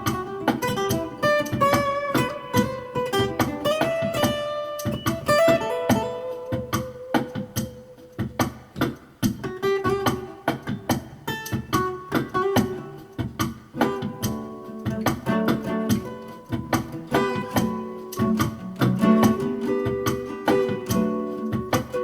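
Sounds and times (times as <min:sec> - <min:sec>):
guitar plucked notes: 0:00.0 - 0:22.0.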